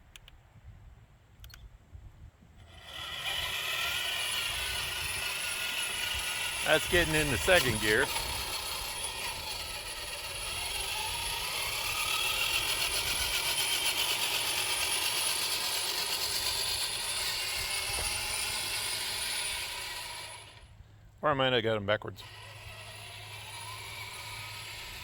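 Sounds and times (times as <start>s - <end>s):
toy truck electric motors whining: 2.6s - 20.8s, 22.2s - 25.0s.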